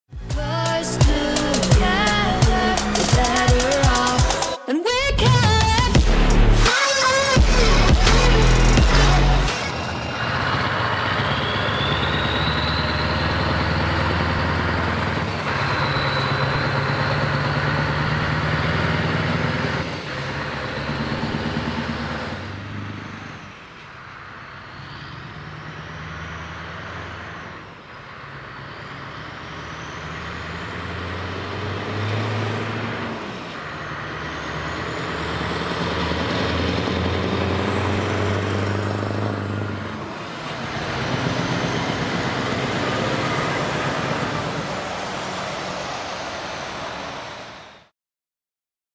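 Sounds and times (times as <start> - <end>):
road noise: 0.1 - 47.9
diesel truck engine driving past: 5.4 - 47.9.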